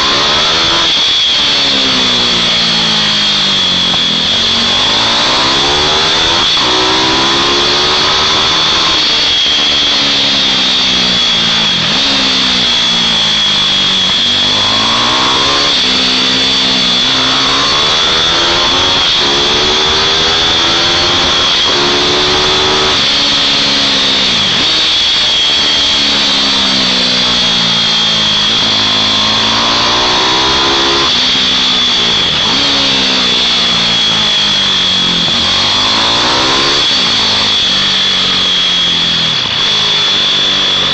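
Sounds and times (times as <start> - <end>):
high-pitched whine: 0.0 - 40.9
mini bike engines revving: 0.0 - 40.9.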